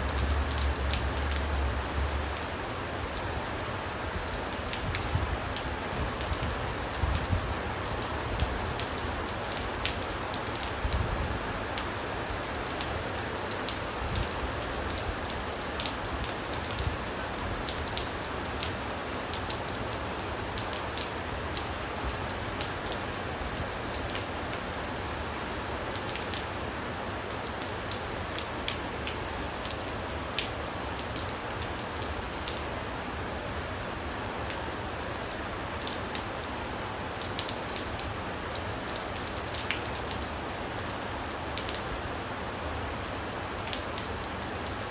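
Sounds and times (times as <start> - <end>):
raindrops striking a surface: 0.0 - 44.9
steady rain falling: 0.0 - 44.9.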